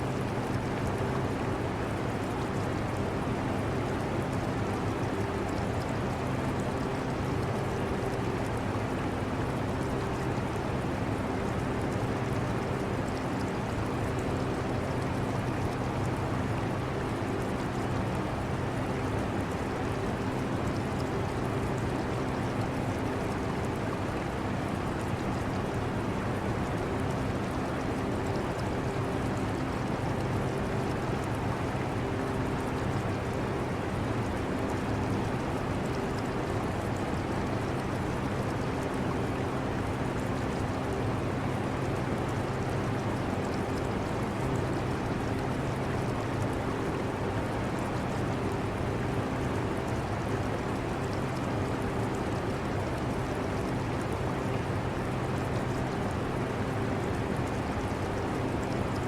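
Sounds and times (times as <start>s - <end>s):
aquarium water trickling and bubbling: 0.0s - 59.0s.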